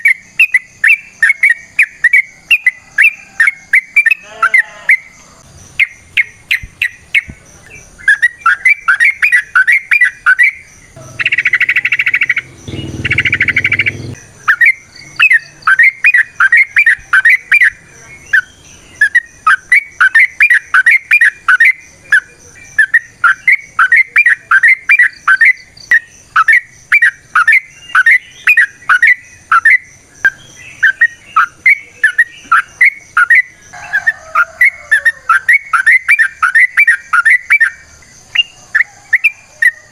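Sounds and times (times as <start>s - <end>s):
bird chattering song: 0.0s - 39.9s
harsh buzzy bird calls: 0.0s - 39.9s.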